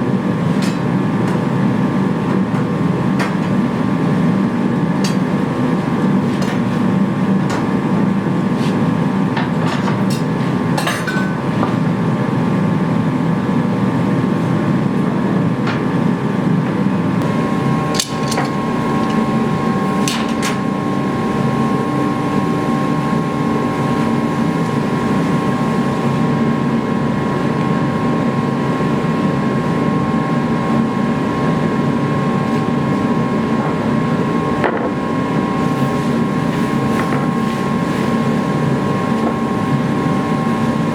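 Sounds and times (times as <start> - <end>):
forge roaring with whine: 0.0 - 40.9.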